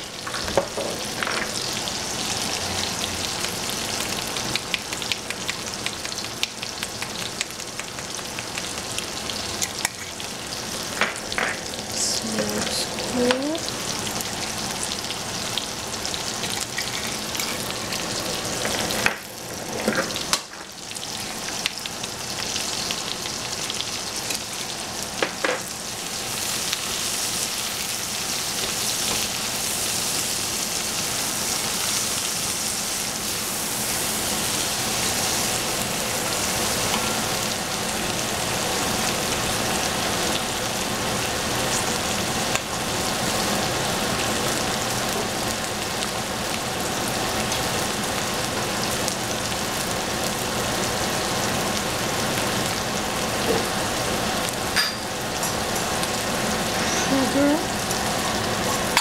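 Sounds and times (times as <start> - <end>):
onions and meat sizzling in oil: 0.0 - 59.0.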